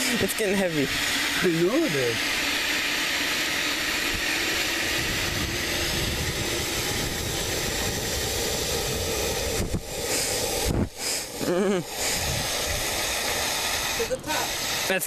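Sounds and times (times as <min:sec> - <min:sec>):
water running into a bucket: 0:00.0 - 0:15.0.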